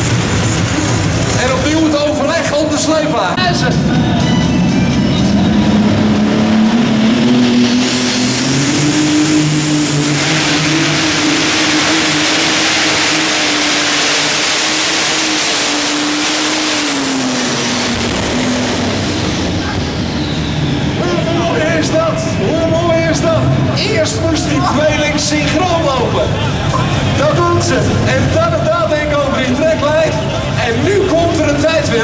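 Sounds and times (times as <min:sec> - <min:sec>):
tractor engines running flat out: 0:00.0 - 0:32.0.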